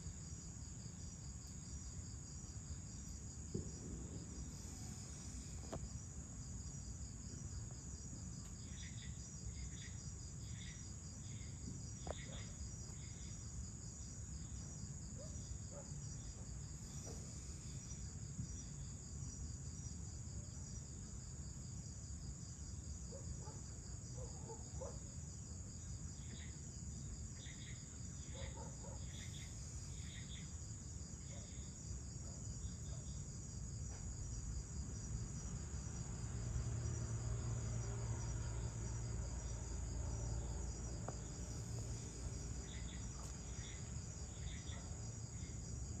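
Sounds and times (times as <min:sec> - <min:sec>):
crickets trilling: 0:00.0 - 0:46.0.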